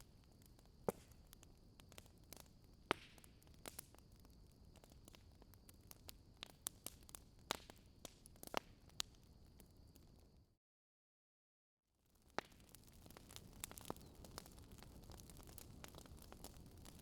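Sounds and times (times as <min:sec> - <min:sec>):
wood fire crackling: 0:00.0 - 0:10.2, 0:12.1 - 0:17.0.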